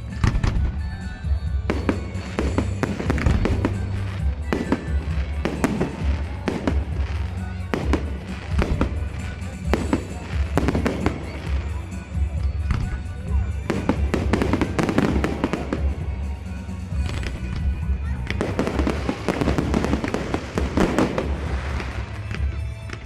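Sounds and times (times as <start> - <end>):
fireworks bangs: 0.0 - 23.0
steady music: 0.0 - 23.0.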